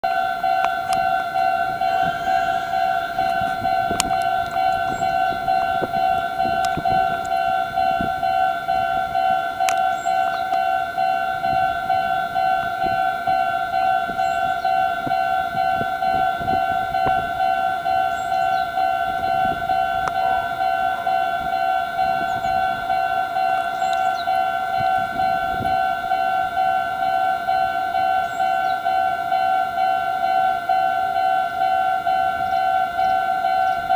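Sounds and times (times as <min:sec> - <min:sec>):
electronic two-note warning bell: 0:00.1 - 0:33.9.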